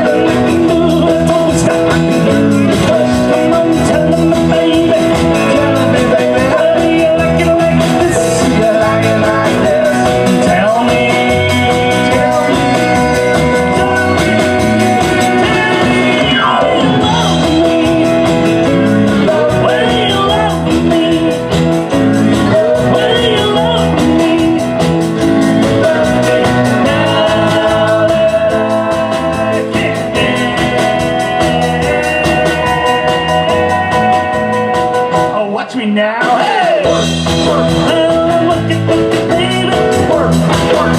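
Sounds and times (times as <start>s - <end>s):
rock and roll band playing: 0.0s - 40.9s.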